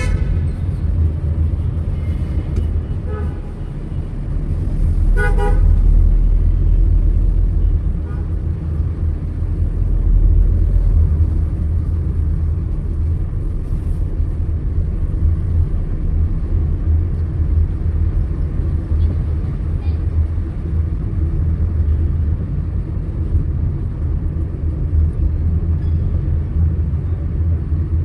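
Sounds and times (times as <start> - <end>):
car driving in city traffic: 0.0 - 28.0.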